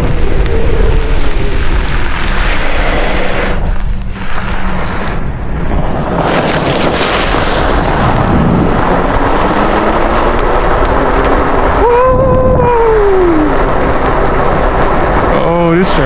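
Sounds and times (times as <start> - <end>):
rising and falling tone: 0.0 - 16.0
wind buffeting microphone: 0.0 - 16.0.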